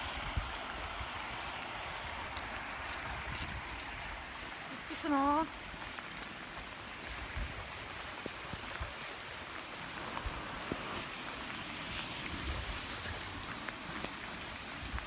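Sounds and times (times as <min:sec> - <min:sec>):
rain on wet pavement: 0:00.0 - 0:15.0.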